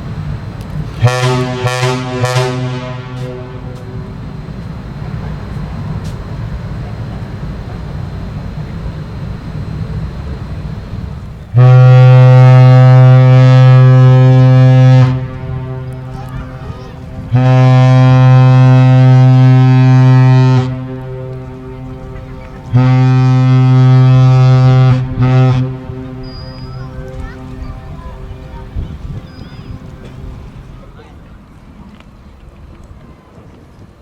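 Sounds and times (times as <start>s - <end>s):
deep ship horn blasts: 0.0s - 31.2s.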